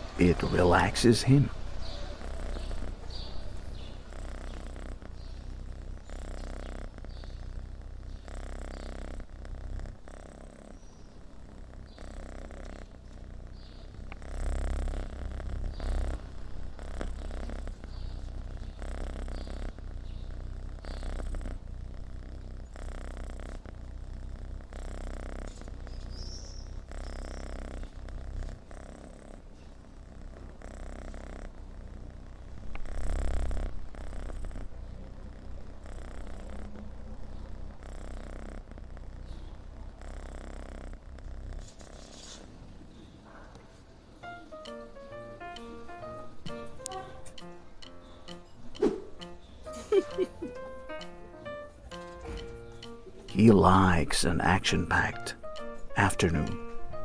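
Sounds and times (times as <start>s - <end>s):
kitten purring: 0.0s - 57.0s.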